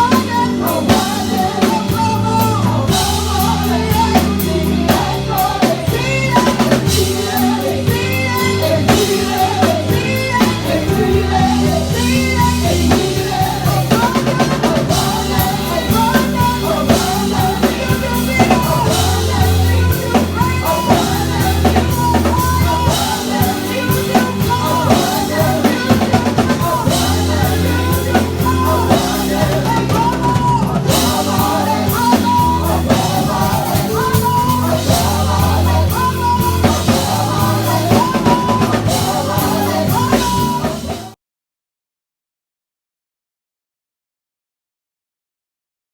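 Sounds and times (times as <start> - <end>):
held bass notes: 0.0 - 41.1
band playing: 0.0 - 41.2
drum kit beat: 0.0 - 41.2
voices singing: 0.0 - 41.2.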